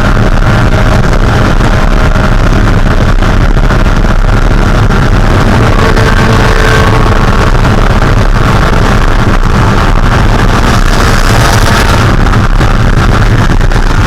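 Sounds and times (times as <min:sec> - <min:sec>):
race car engine drone: 0:00.0 - 0:14.0
wind noise on microphone: 0:00.0 - 0:14.0.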